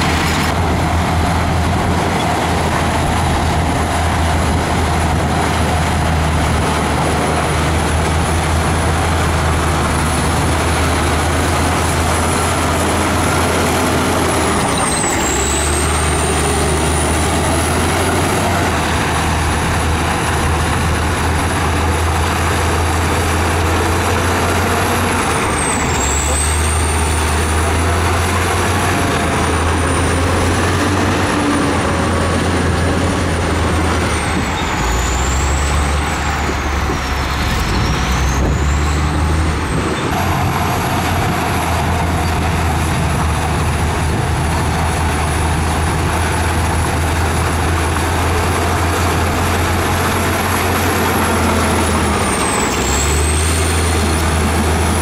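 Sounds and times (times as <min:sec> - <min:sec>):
bulldozer diesel engine under load: 0:00.0 - 0:55.0
high engine whine: 0:00.0 - 0:55.0.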